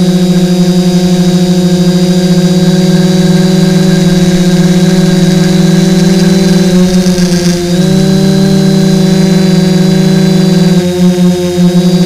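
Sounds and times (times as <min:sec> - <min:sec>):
drone motors buzzing: 0:00.0 - 0:12.0.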